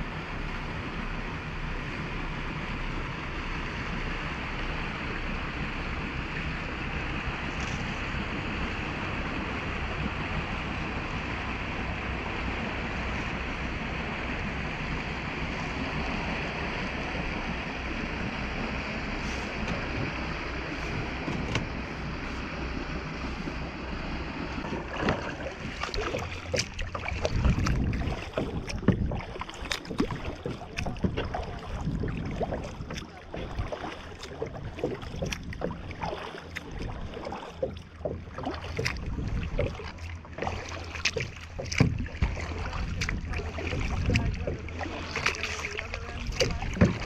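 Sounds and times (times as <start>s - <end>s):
paddle splashes and drips: 0.0s - 47.0s
water lapping against hull: 0.0s - 47.0s
wind rumbling on microphone: 0.0s - 47.0s.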